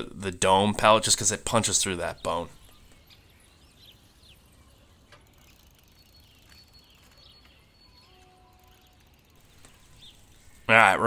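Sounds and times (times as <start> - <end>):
distant bird chirps: 0.0 - 11.0.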